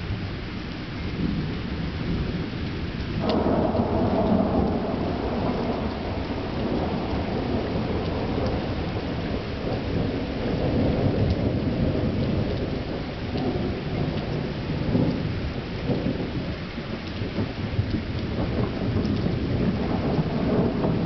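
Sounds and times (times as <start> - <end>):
rolling thunder: 3.2 - 21.0.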